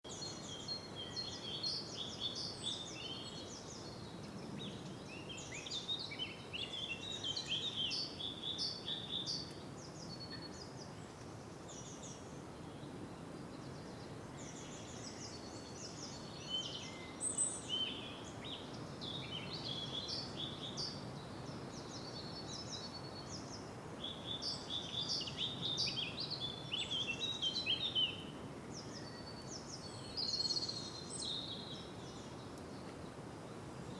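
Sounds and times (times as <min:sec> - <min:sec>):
background hiss: 0:00.1 - 0:33.9.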